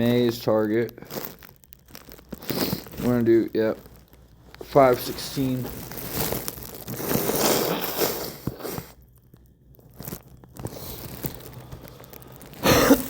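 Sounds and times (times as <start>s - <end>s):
crackling rustling noise: 0.0s - 13.0s.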